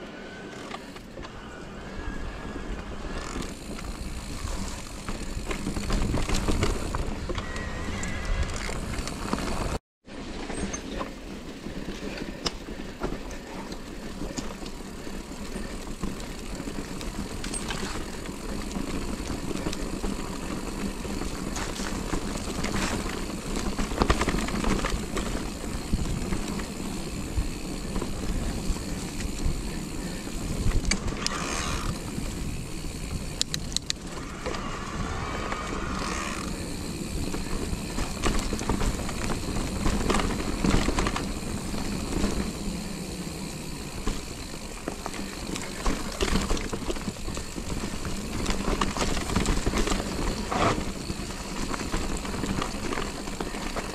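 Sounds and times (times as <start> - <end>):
bike tyres on stony trail: 0.0 - 53.9
bike rattling over bumps: 0.5 - 53.9.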